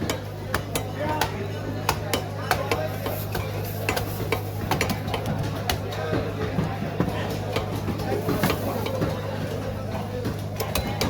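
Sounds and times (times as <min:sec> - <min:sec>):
faint background voices: 0:00.0 - 0:11.0.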